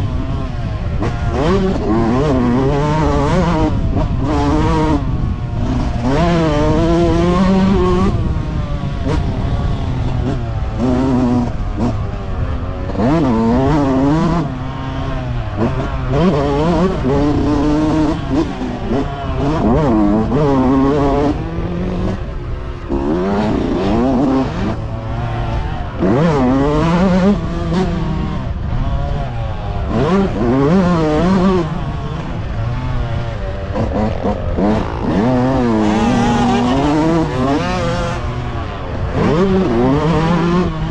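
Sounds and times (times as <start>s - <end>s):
motocross bikes revving: 0.0s - 40.9s.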